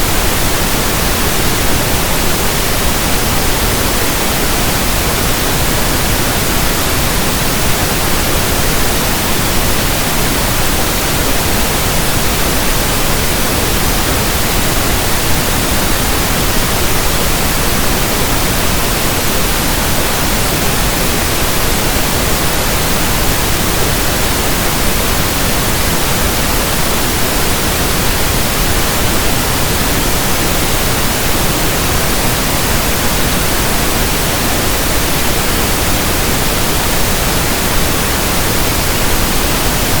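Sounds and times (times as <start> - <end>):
steady pink noise hiss: 0.0 - 40.0.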